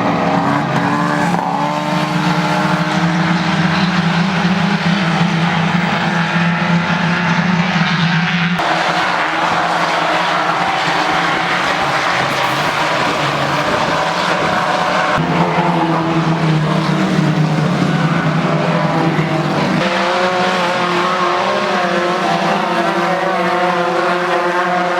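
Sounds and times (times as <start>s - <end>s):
race car engines at high revs: 0.0s - 24.9s.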